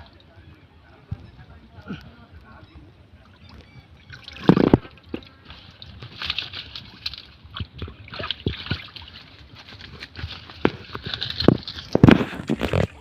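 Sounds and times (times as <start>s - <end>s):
shallow water sloshing and splashing: 0.0s - 13.0s.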